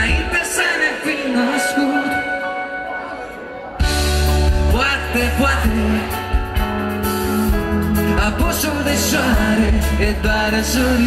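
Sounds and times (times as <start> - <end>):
man singing: 0.0 - 3.2, 3.8 - 11.0
live pop band playing: 0.0 - 11.0.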